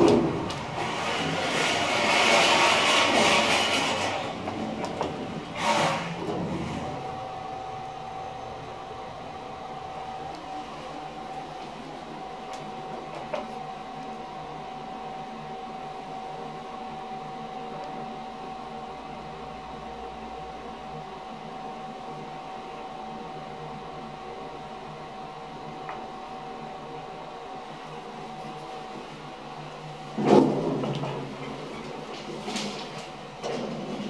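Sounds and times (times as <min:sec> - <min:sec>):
elevator hum with high whine: 0:00.0 - 0:34.0.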